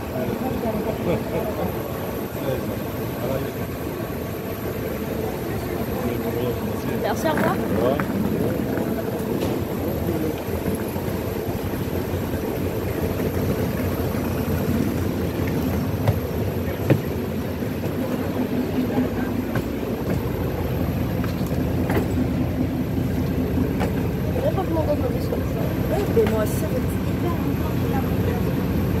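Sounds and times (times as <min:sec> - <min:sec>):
mechanical drone with low hum: 0:00.0 - 0:29.0.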